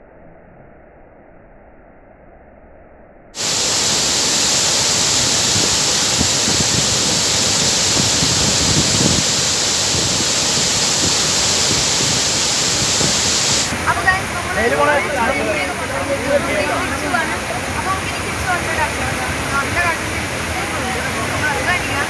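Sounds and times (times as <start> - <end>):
faint muffled hiss: 3.4 - 22.0
waterfall rushing: 3.4 - 22.0.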